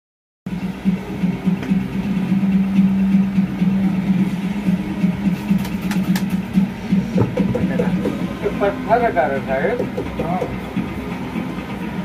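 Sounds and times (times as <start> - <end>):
low machine hum: 0.5 - 12.0.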